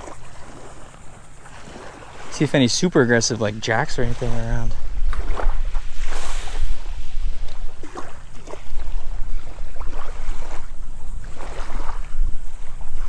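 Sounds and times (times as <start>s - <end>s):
small waves lapping: 0.0s - 13.0s
wind rumbling on microphone: 0.0s - 13.0s.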